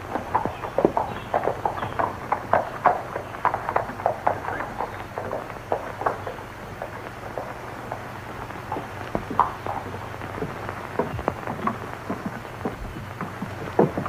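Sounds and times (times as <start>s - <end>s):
film soundtrack hum: 0.0s - 14.0s
horse hooves clopping on dirt: 0.0s - 14.0s.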